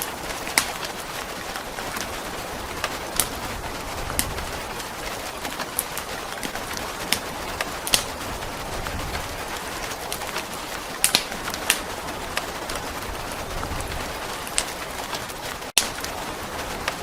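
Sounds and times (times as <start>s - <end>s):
rain hiss: 0.0s - 17.0s
wood fire crackling and popping: 0.0s - 17.0s.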